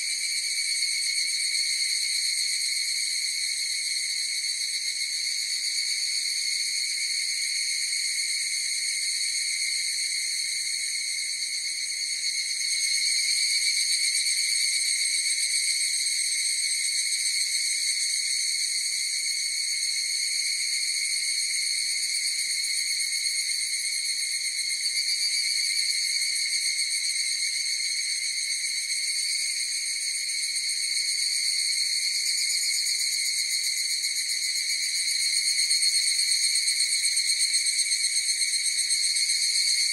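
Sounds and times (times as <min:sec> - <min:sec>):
evening cicadas calling: 0:00.0 - 0:39.9.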